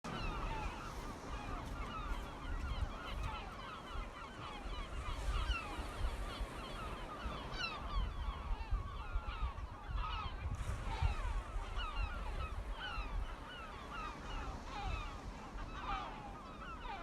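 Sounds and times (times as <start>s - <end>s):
gulls calling: 0.0s - 17.0s.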